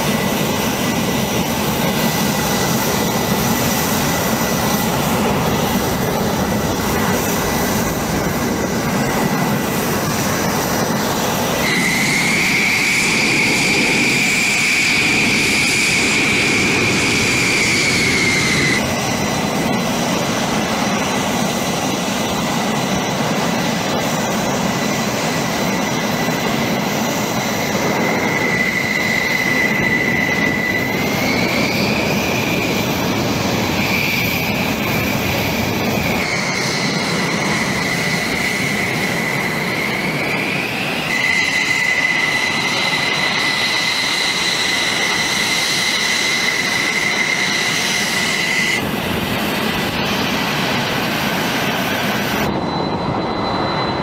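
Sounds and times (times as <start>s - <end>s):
jet engine roar with whine: 0.0s - 54.0s.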